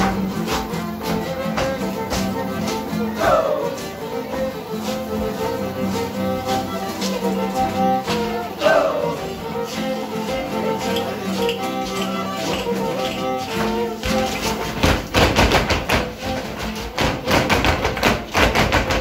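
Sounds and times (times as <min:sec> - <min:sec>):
shoes tapping on hard floor: 0:00.0 - 0:19.0
violin and guitar dance tune: 0:00.0 - 0:19.0.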